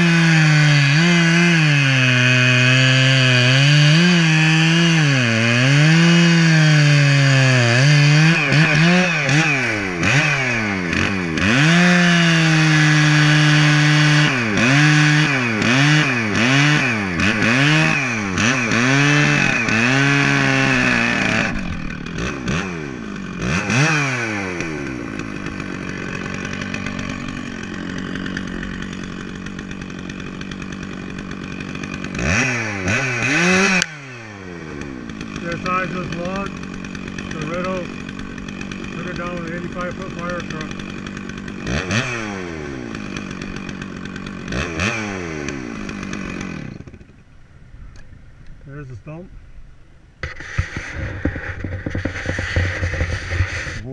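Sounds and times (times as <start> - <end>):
chainsaw cutting log: 0.0 - 47.3, 50.2 - 53.9.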